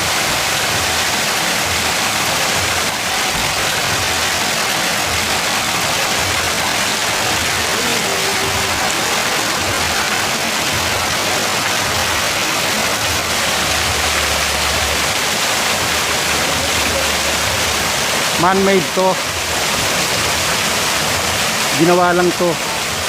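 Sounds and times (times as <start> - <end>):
rushing water roar: 0.0 - 23.0.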